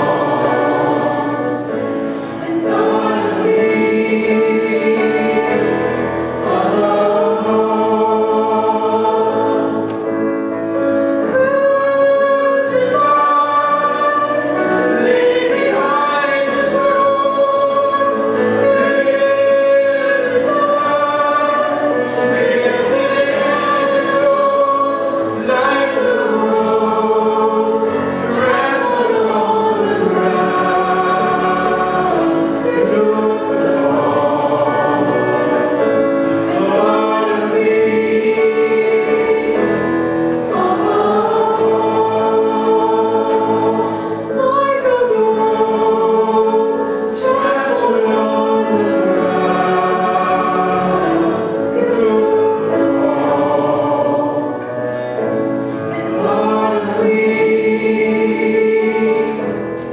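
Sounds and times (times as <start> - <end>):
keyboard: 0.0 - 59.9
people singing into microphones: 0.0 - 59.9.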